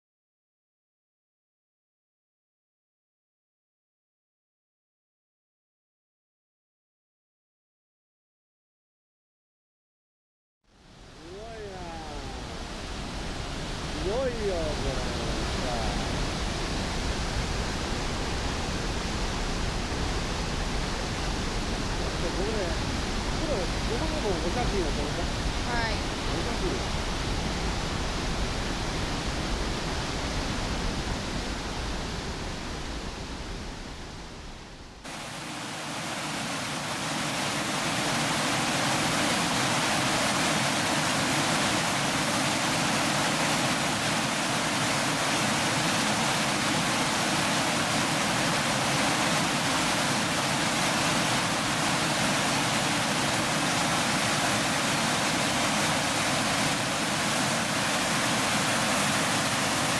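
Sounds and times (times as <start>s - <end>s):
waterfall rushing: 10.8s - 34.3s, 35.0s - 59.9s.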